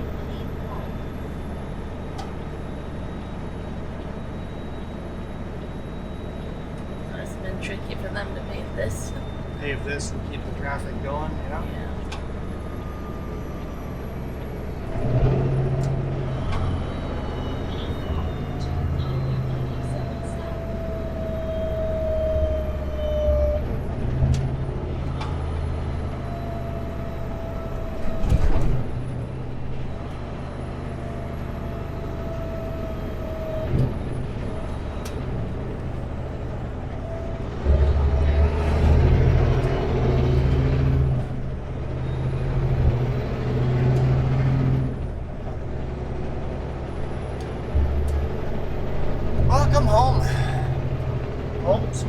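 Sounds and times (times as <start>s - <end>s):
truck diesel engine droning: 0.0s - 52.0s.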